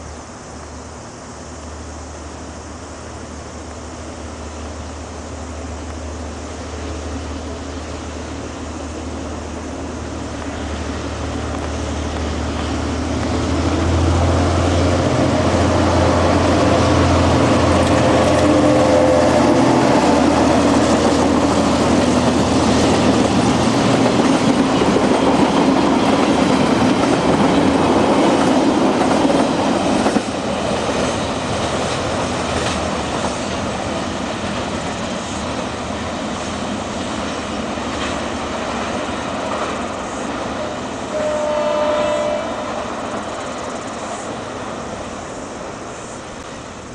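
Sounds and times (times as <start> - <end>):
locomotive engine hum: 0.0 - 46.9
train wagons rolling on rails: 0.0 - 46.9.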